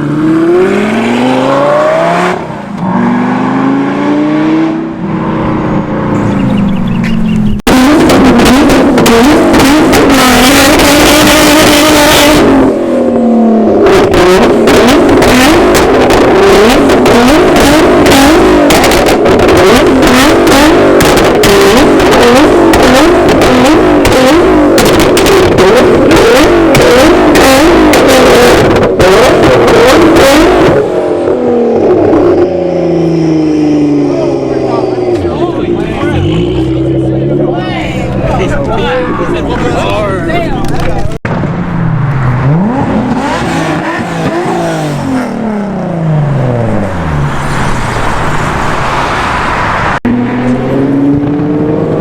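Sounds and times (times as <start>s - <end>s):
car engine revving hard: 0.0s - 40.4s, 42.2s - 52.0s
engine crackling: 5.3s - 52.0s.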